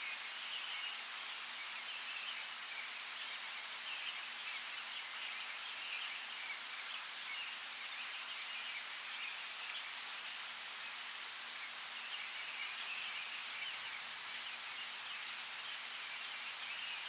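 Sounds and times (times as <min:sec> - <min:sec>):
steady rain hiss: 0:00.0 - 0:17.0
small birds chirping: 0:00.1 - 0:17.0.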